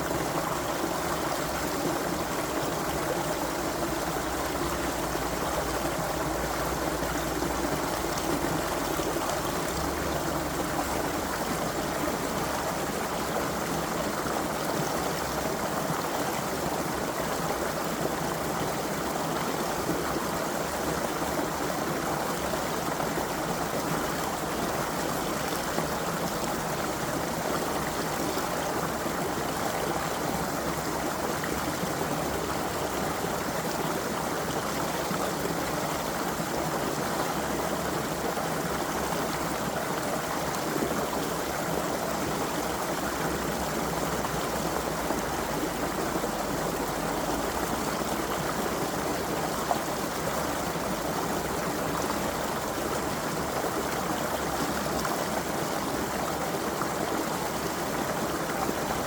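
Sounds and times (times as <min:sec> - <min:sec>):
creek water flowing over stones: 0:00.0 - 0:59.0.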